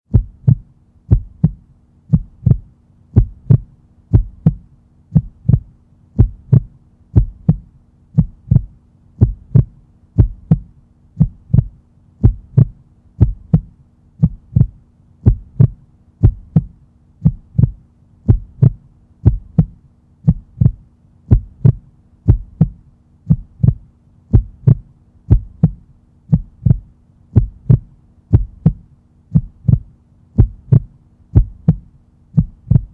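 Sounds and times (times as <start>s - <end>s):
heartbeat thumps: 0.1s - 32.9s.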